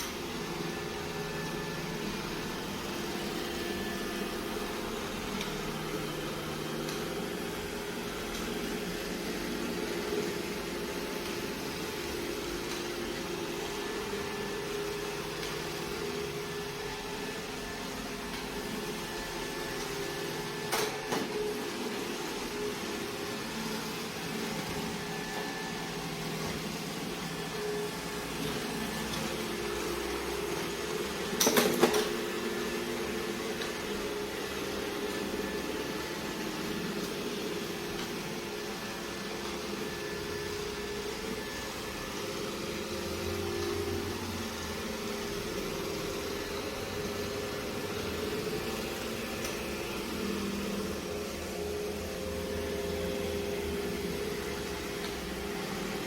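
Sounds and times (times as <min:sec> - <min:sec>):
robot vacuum motor and brush hum: 0:00.0 - 0:56.0.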